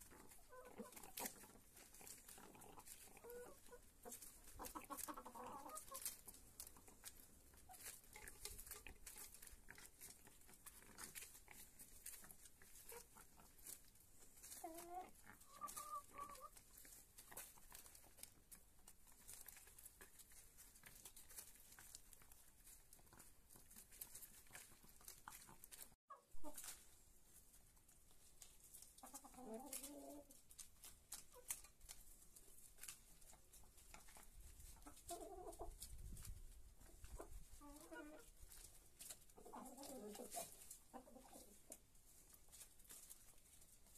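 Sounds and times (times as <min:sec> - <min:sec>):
hens clucking: 0:00.0 - 0:43.9.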